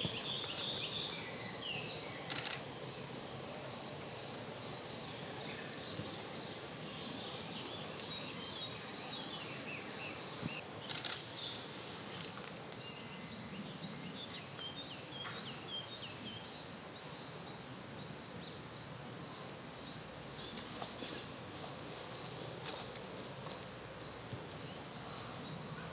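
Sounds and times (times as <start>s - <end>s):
outdoor hiss: 0.0s - 25.9s
small birds chirping: 0.0s - 25.9s.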